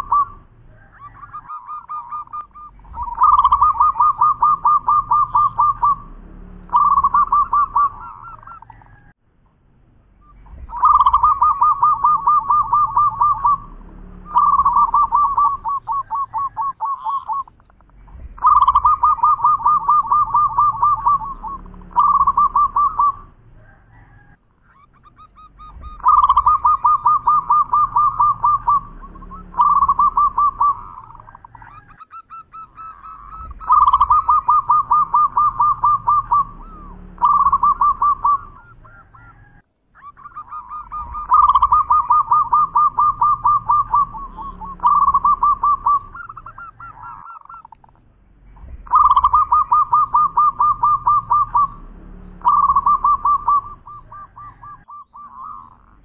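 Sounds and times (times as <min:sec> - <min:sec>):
dove cooing: 0:00.0 - 0:09.2, 0:10.2 - 0:56.0.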